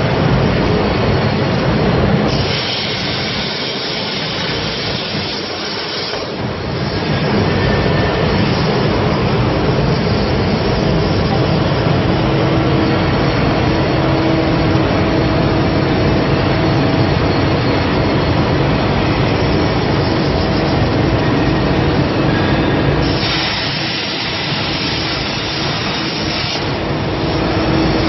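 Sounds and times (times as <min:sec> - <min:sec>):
faint steady whine: 0:00.0 - 0:28.0
cutting torch hissing roar: 0:02.2 - 0:16.8, 0:17.9 - 0:28.0.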